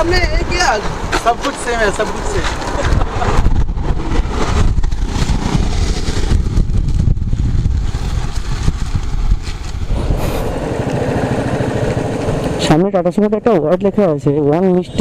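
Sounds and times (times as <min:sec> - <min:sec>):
motorcycle engine rumbling: 0:00.0 - 0:14.2
wind noise: 0:00.0 - 0:15.0.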